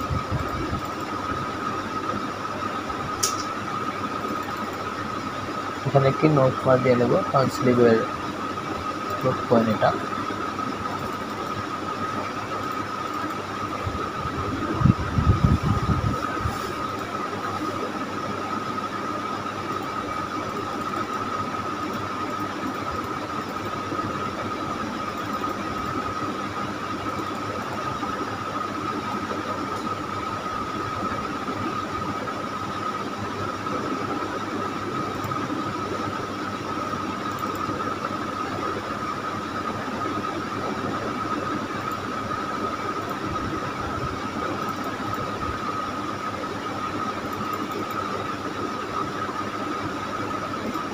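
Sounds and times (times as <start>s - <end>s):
steady background noise: 0.0s - 50.9s.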